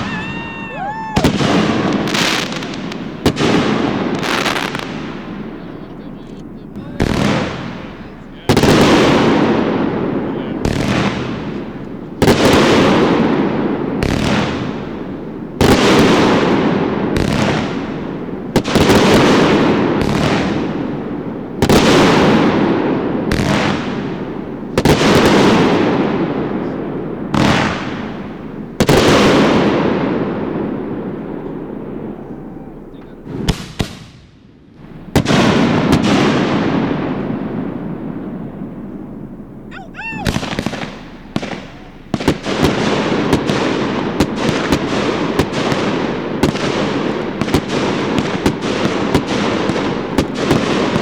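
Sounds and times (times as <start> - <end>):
fireworks booming: 0.0 - 51.0.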